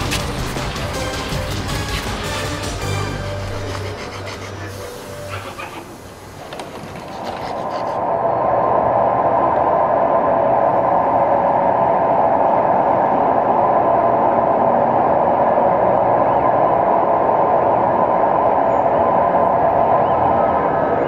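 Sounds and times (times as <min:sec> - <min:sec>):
metro train rushing: 0:00.0 - 0:21.0.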